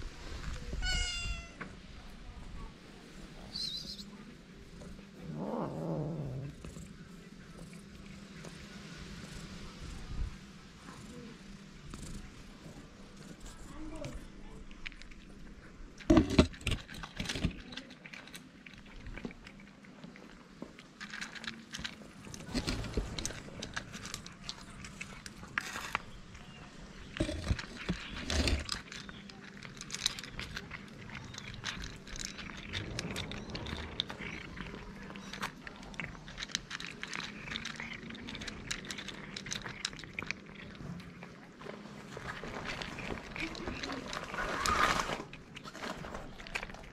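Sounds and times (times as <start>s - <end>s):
cats crunching dry kibble: 0.0s - 46.9s.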